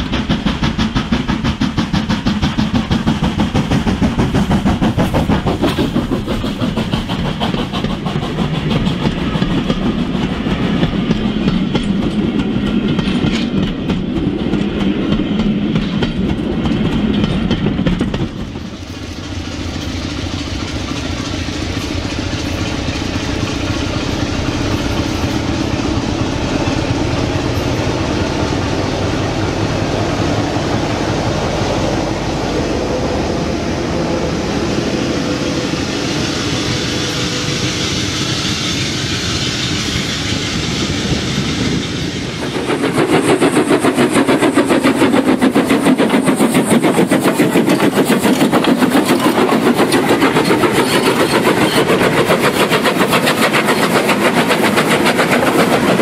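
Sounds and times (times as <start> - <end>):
model train wheels clicking on rails: 0.0 - 31.0, 35.6 - 56.0
smooth freight train running noise: 0.0 - 56.0.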